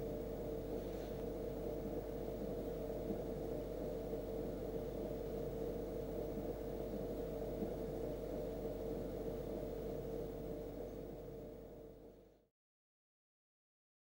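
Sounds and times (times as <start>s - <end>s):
steady mid-pitched hum: 0.0s - 12.5s.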